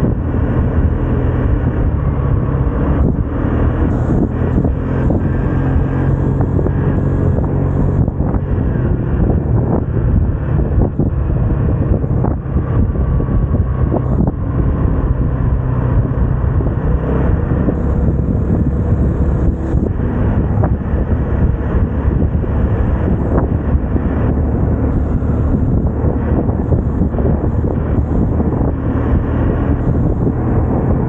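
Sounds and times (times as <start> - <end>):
road noise: 0.0 - 31.0
scooter engine running: 0.0 - 31.0
wind on microphone: 0.0 - 31.0.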